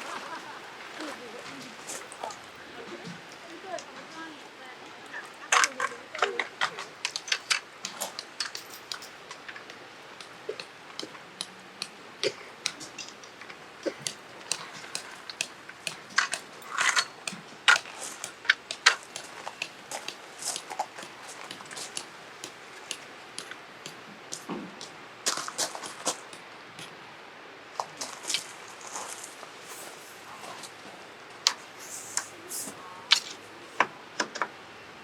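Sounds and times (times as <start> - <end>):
objects clattering while handled: 5.0 - 27.0, 27.8 - 34.3.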